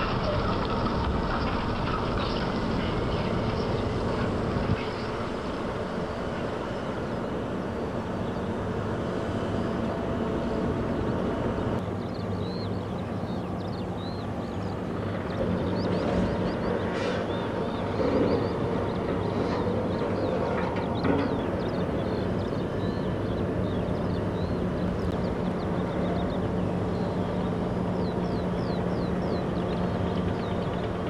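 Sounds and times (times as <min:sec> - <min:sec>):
excavator mechanical drone: 0:00.0 - 0:31.0.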